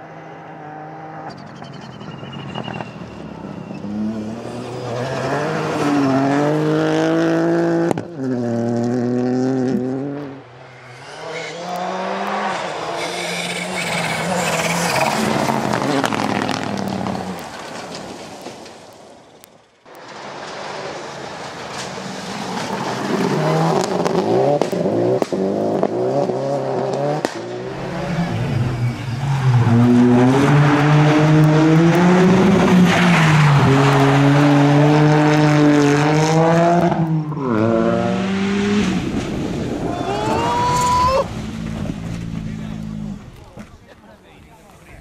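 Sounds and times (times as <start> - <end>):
rally car engine at full throttle: 0.0 - 18.4, 20.0 - 43.8.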